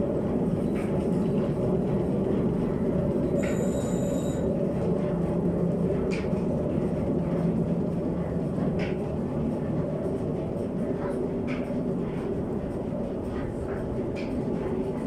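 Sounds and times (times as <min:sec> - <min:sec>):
mill machinery rumbling: 0:00.0 - 0:15.0.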